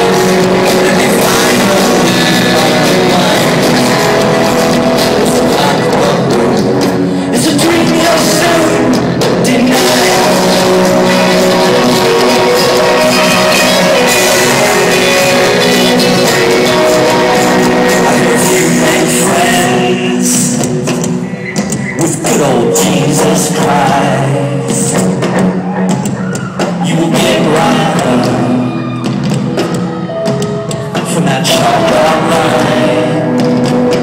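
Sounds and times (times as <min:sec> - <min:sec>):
live rock band playing loudly: 0:00.0 - 0:34.0.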